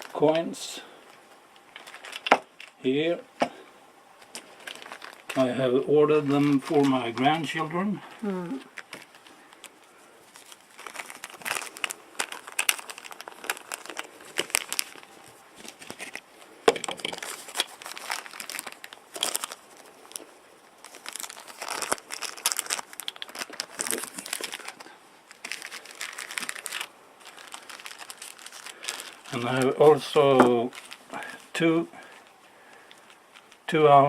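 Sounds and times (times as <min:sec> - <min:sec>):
packaging crinkling and tearing: 0:00.0 - 0:00.3, 0:01.6 - 0:02.8, 0:04.2 - 0:05.6, 0:06.2 - 0:33.7.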